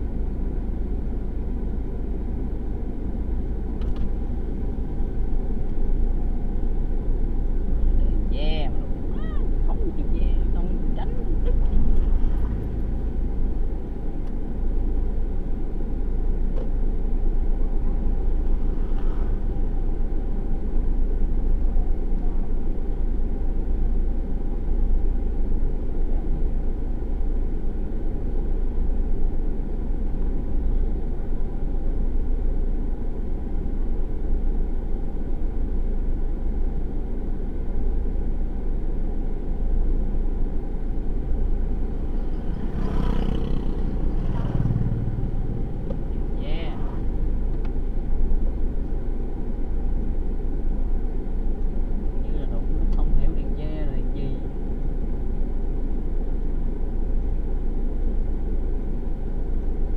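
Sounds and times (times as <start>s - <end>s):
car engine and tyres rumble: 0.0s - 59.9s.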